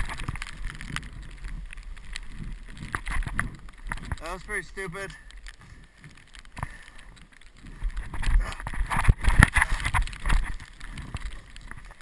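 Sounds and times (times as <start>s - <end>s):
snow scraping and crunching: 0.0s - 12.0s.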